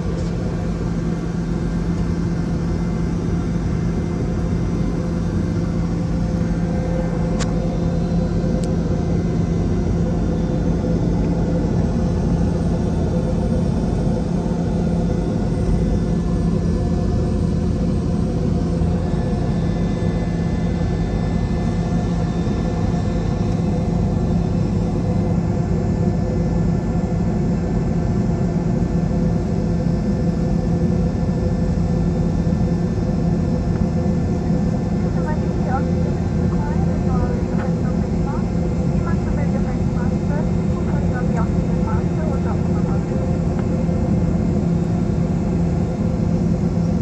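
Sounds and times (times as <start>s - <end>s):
aircraft cabin engine rumble: 0.0s - 47.0s.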